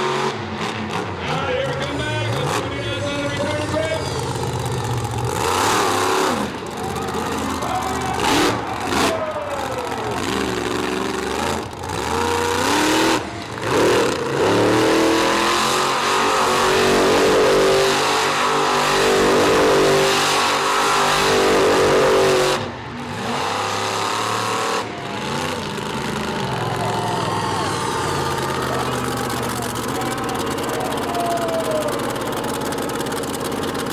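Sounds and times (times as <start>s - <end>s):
truck engine revving hard: 0.0s - 33.9s.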